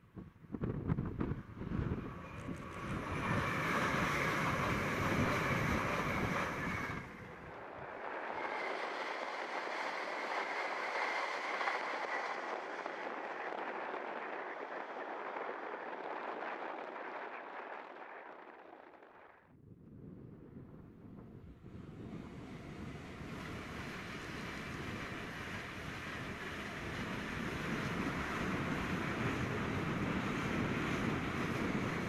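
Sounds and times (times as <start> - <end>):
wind buffeting microphone: 0.0 - 32.0
train passing at speed: 1.0 - 16.9, 21.5 - 32.0.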